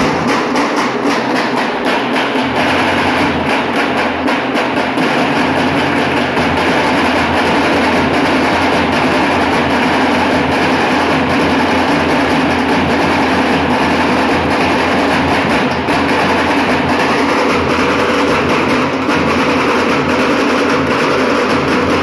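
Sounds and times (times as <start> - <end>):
dhol drums beating: 0.0 - 22.0
tasha drum beating: 0.0 - 22.0.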